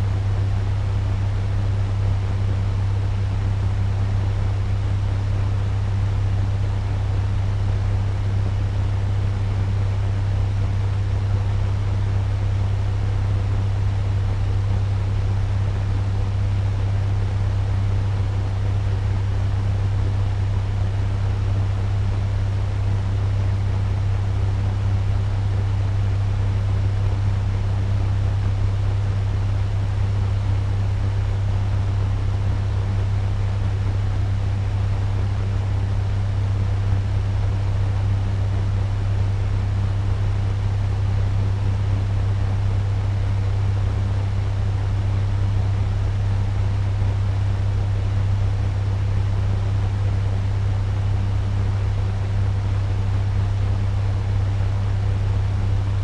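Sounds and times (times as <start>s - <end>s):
fan running: 0.0s - 56.0s.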